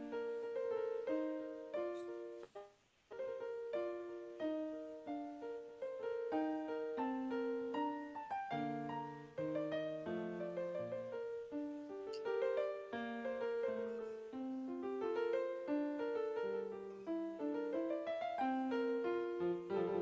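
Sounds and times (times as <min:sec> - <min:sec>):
solo piano playing: 0:00.0 - 0:02.5, 0:03.1 - 0:20.0.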